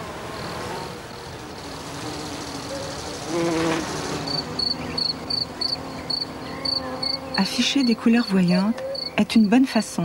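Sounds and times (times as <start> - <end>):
insect wings buzzing: 0.0 - 9.6
cricket chirping: 0.3 - 9.6.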